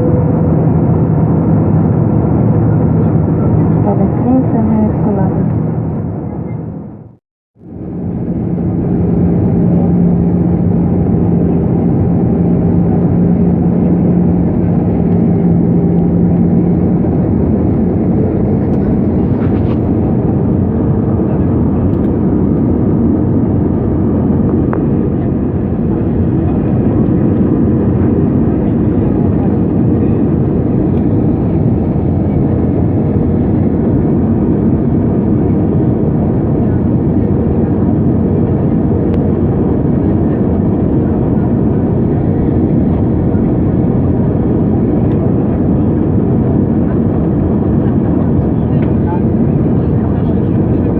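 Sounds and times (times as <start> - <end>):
aircraft engine rumble: 0.0 - 50.9
low hum: 0.0 - 50.9.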